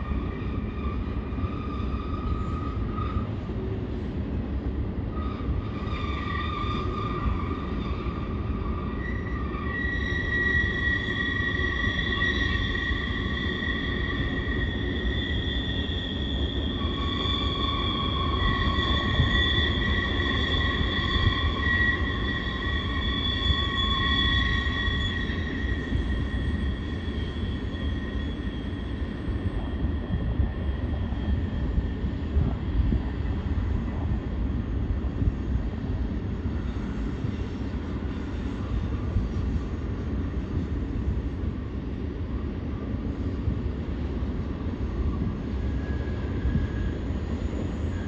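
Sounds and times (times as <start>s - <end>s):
freight train rumbling: 0.0s - 48.0s
train wheel squeal: 0.0s - 48.0s.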